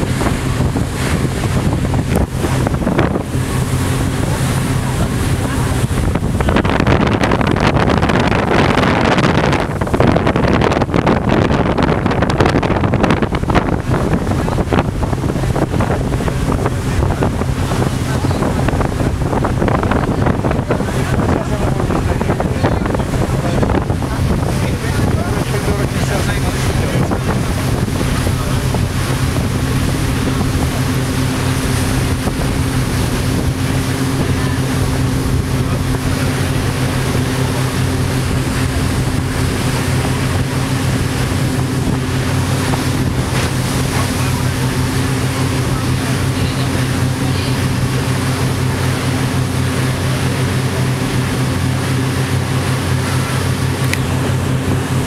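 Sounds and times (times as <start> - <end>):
ferry engine humming: 0.0 - 55.0
water rushing past hull: 0.0 - 55.0
wind buffeting microphone: 0.0 - 55.0.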